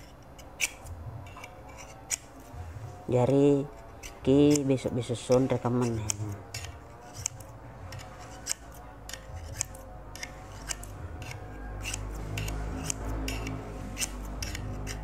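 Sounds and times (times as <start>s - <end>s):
scissor blades scraping on metal: 0.0s - 2.6s, 3.3s - 15.0s.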